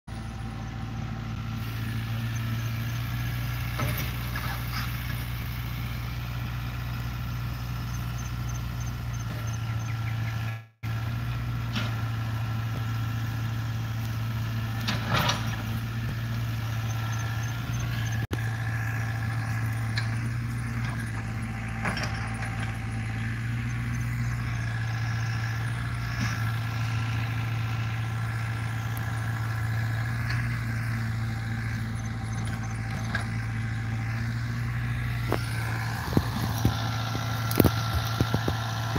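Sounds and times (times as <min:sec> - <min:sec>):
excavator diesel engine droning: 0:00.1 - 0:38.9.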